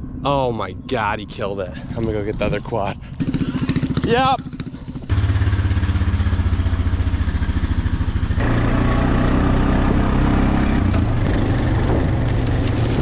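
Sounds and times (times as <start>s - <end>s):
quad engine running: 2.4s - 13.0s.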